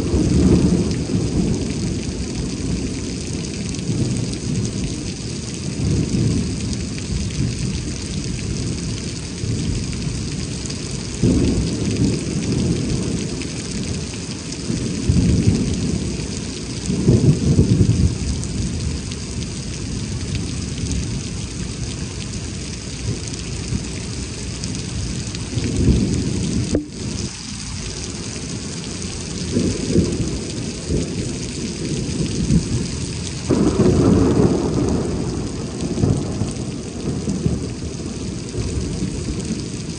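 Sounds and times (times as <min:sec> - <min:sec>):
heavy rain falling: 0:00.0 - 0:39.9
low thunder rumbles: 0:00.0 - 0:39.9.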